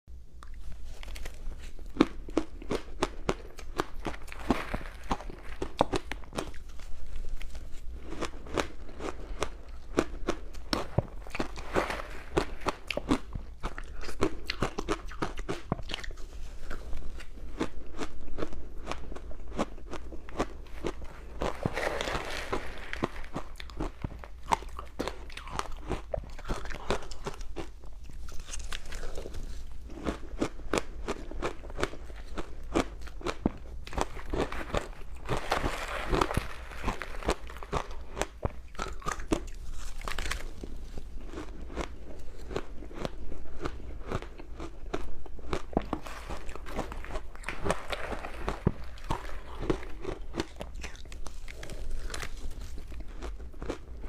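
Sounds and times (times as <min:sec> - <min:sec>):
ice being chewed: 0:00.4 - 0:54.0.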